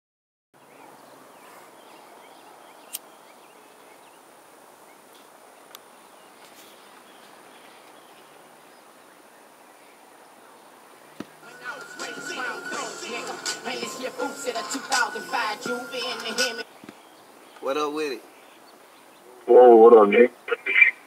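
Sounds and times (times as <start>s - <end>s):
background hiss: 0.6s - 21.0s.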